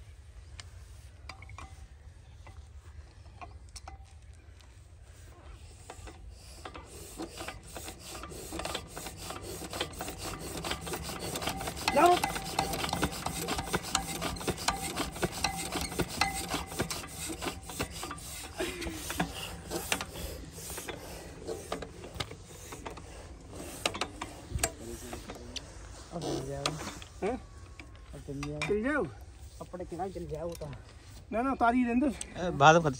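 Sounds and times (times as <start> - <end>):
diesel engine crank clicking and rasping: 5.6 - 32.9.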